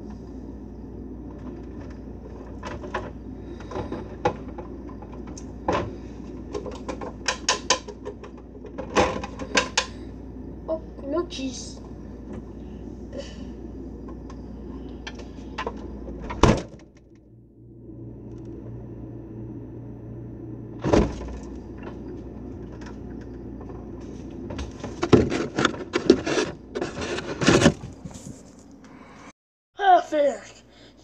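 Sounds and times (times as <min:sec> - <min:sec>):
refrigerator low hum: 0:00.0 - 0:31.0.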